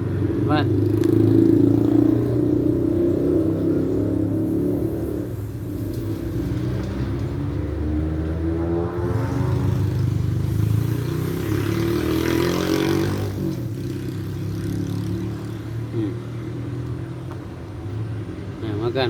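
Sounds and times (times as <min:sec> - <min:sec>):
vehicle engine revving: 0:00.0 - 0:19.0.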